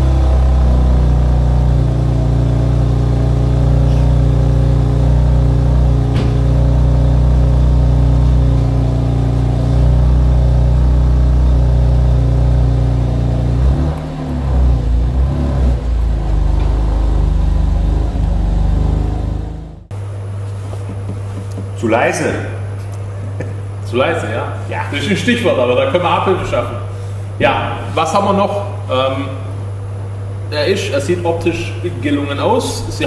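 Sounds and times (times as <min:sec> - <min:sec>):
car engine idling: 0:00.0 - 0:21.8, 0:25.0 - 0:33.0.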